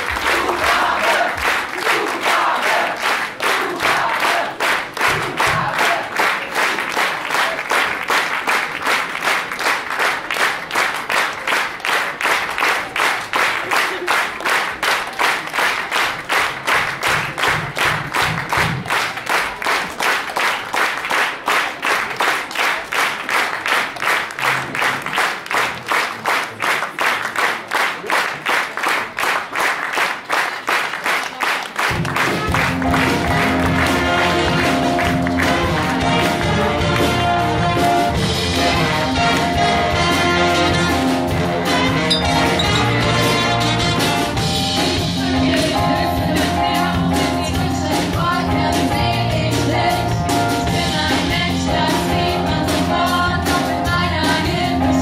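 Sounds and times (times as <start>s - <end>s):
audience clapping in rhythm: 0.0s - 55.0s.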